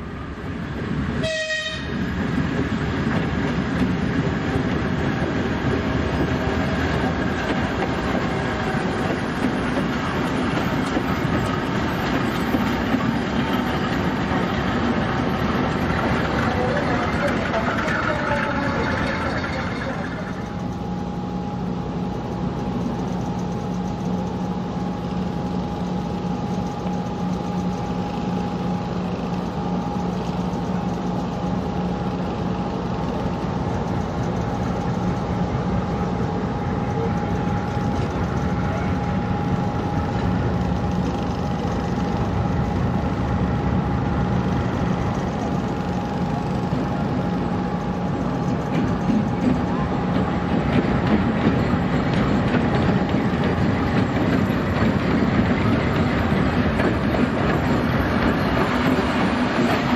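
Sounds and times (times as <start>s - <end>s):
diesel locomotive engine humming: 0.0s - 59.9s.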